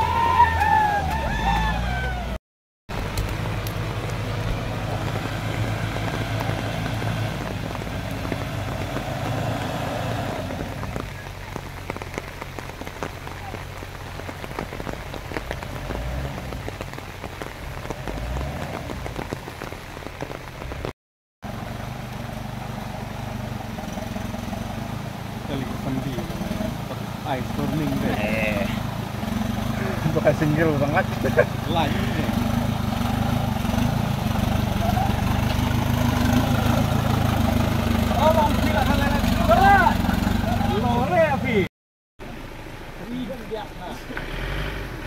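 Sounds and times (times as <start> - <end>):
heavy rain falling: 0.0 - 45.0
vehicle engine running low: 0.2 - 45.0.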